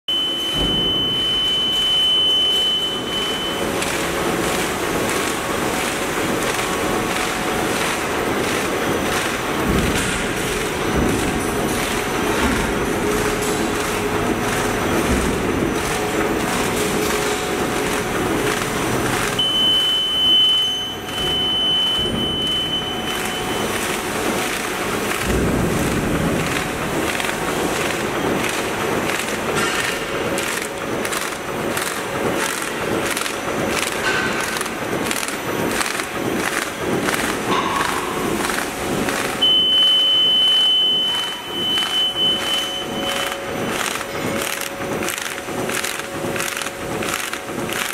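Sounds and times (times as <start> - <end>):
machine strokes beating: 0.1 - 47.9
machine whirring: 0.1 - 47.9.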